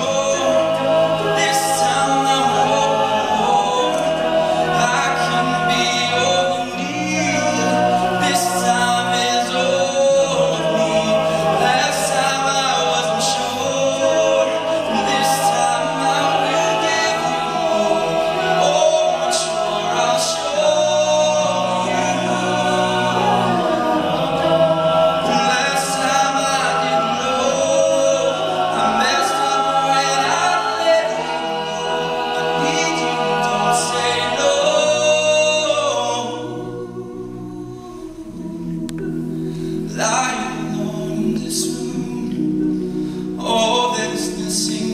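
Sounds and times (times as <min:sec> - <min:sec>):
men singing a cappella: 0:00.0 - 0:44.9.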